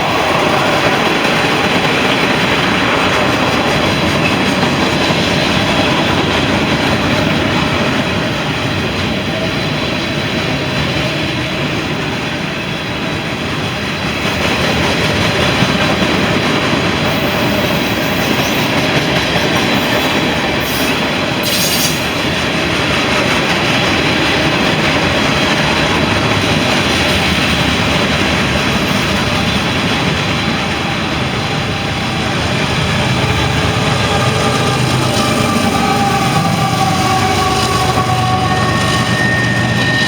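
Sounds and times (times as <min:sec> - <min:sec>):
train wheels clattering on rails: 0:00.0 - 0:40.0.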